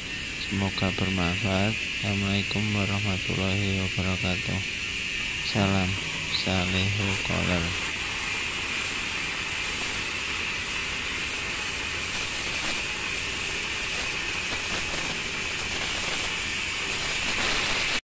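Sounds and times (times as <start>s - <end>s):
air and water spraying hiss: 0.0s - 18.0s.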